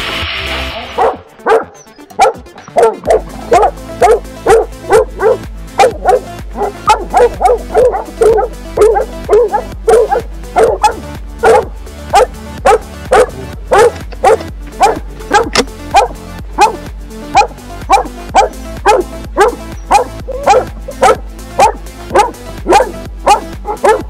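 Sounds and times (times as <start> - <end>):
hunting dogs barking: 1.0 - 24.0.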